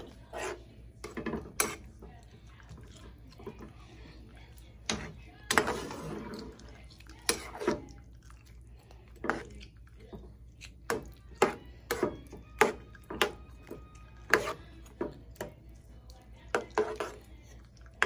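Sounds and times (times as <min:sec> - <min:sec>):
metal spoon stirring in pan: 0:00.0 - 0:18.0.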